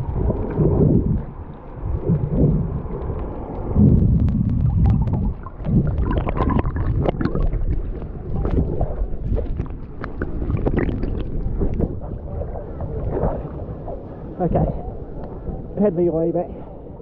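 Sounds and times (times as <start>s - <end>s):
small clicks and crackles: 0.0s - 14.0s, 14.9s - 15.8s
water sloshing and gurgling: 0.0s - 17.0s.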